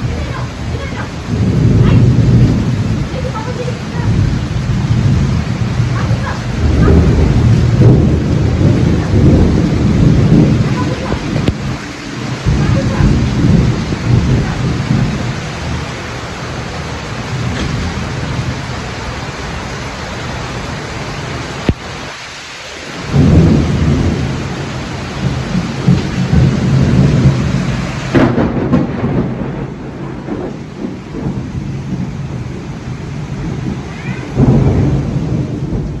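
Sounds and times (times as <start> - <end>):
heavy rain pouring: 0.0 - 36.0
rolling thunder: 0.0 - 36.0.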